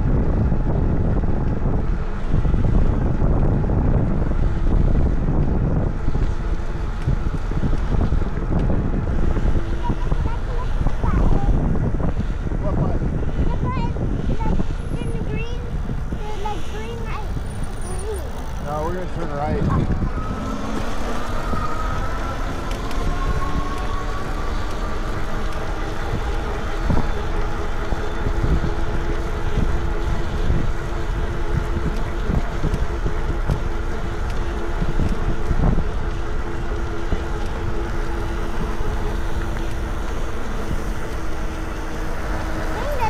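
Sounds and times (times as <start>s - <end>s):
electric bike motor whine: 0.0s - 43.0s
road rumble: 0.0s - 43.0s
wind noise: 0.0s - 43.0s.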